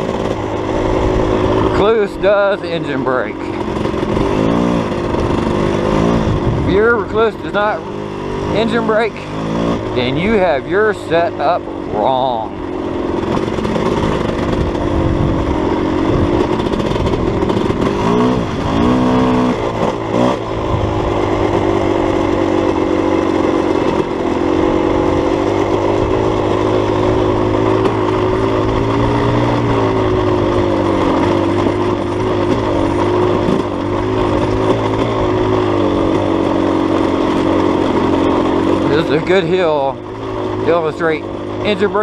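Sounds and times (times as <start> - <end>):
dirt bike engine running: 0.0 - 42.0.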